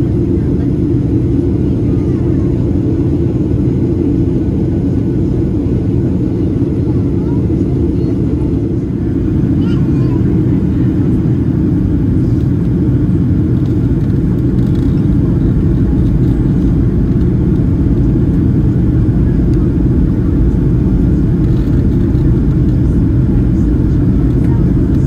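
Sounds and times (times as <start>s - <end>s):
jet engine cabin rumble: 0.0s - 25.0s.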